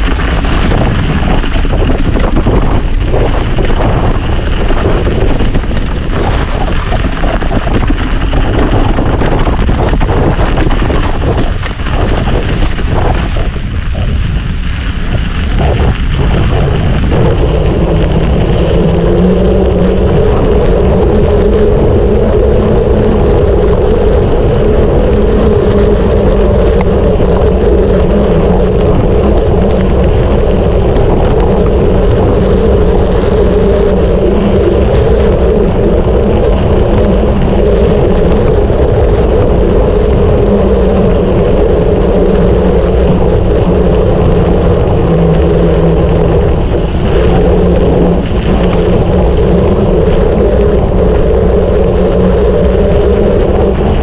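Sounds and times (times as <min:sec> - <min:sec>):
bike tyres humming and rumbling: 0:00.0 - 0:54.0
wind on microphone: 0:00.0 - 0:54.0.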